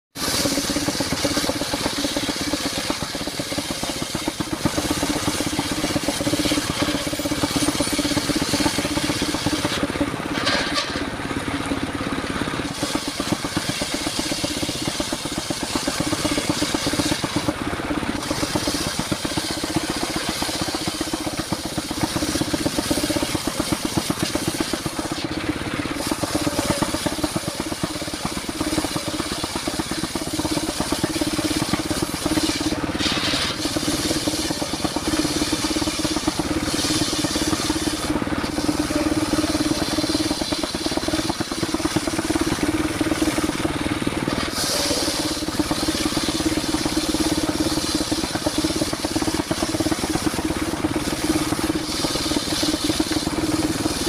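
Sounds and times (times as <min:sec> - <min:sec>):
circular sawmill running: 0:00.1 - 0:54.0.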